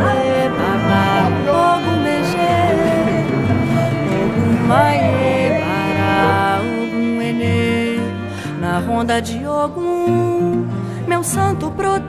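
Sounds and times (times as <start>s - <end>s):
sung melody: 0.0s - 9.9s.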